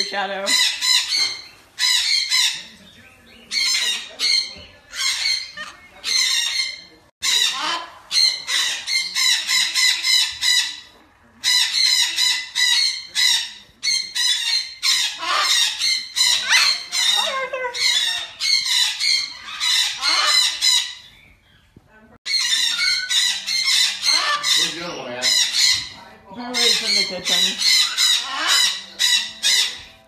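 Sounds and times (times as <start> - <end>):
cockatoo squawking and screeching: 0.4 - 2.7, 3.5 - 21.2, 22.3 - 30.0.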